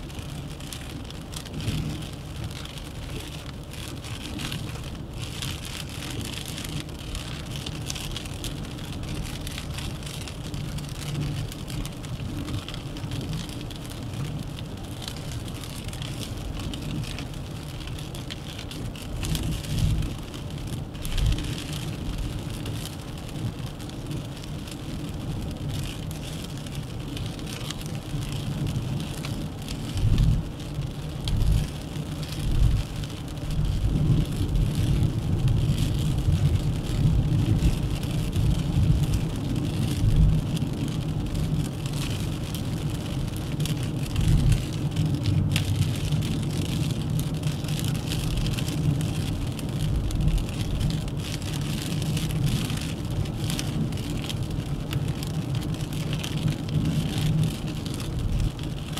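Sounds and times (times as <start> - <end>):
tyre and road noise: 0.0 - 58.9.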